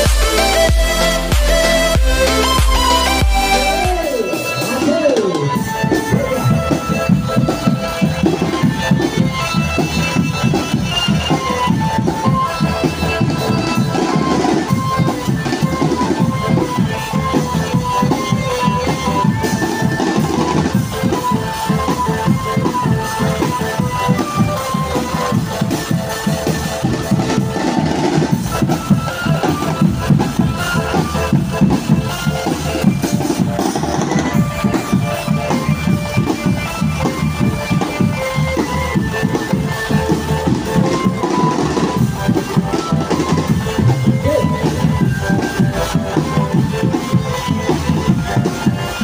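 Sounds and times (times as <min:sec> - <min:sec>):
fast drumming on snare and bass drums: 0:00.0 - 0:49.0
melody of held notes: 0:00.0 - 0:49.0.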